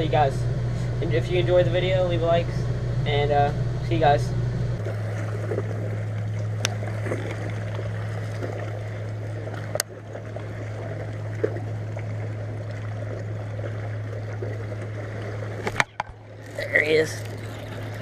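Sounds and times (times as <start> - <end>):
boat motor humming: 0.0 - 18.0
water sloshing: 0.0 - 18.0.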